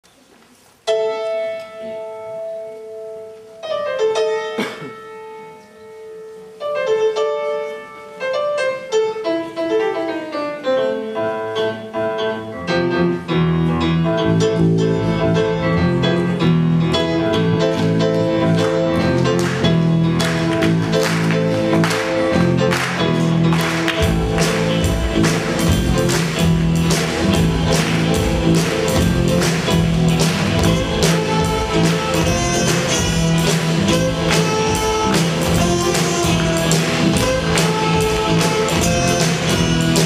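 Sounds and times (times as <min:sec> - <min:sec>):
grand piano playing: 0:00.8 - 0:40.0
band accompaniment: 0:03.4 - 0:40.0.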